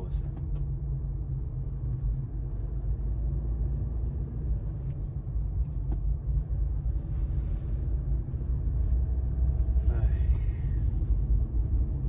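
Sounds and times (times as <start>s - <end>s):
car engine and tyres rumbling: 0.0s - 12.0s
faint engine hum: 0.0s - 12.0s.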